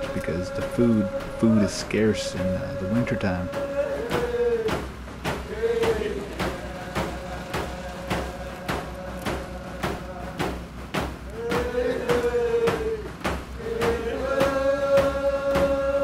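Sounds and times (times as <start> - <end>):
person singing a chant: 0.0 - 10.6, 11.3 - 16.0
drum beating steadily: 0.0 - 16.0.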